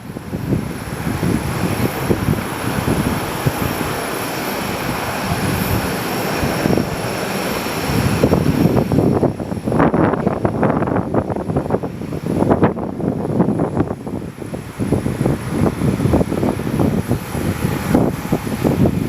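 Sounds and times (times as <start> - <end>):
aircraft engines whining: 0.0 - 19.0
wind buffeting microphone: 0.0 - 19.0.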